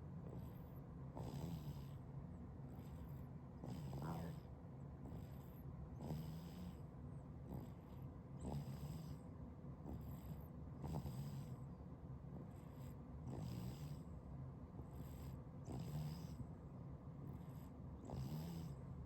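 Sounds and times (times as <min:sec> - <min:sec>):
baby snoring softly: 0:00.1 - 0:19.0.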